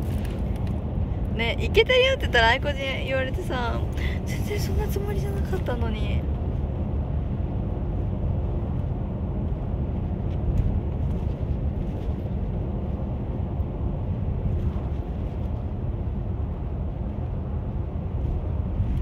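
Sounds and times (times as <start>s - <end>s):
low road rumble inside car: 0.0s - 19.0s.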